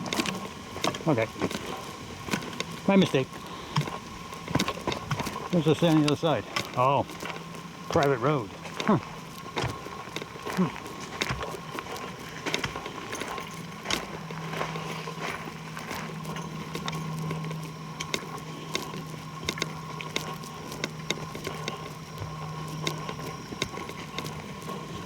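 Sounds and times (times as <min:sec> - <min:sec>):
footsteps crunching twigs and leaves: 0:00.0 - 0:25.0
steady low hum: 0:00.0 - 0:25.0.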